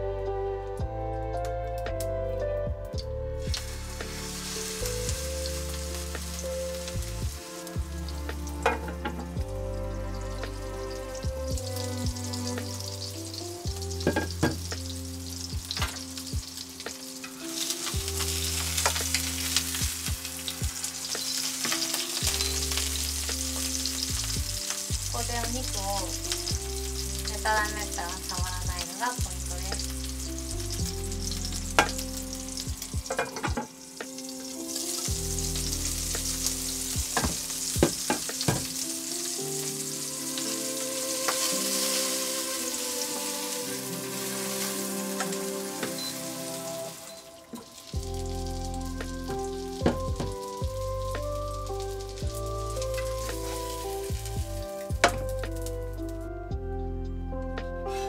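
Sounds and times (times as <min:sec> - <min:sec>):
patty sizzling in a frying pan: 0:03.4 - 0:56.0.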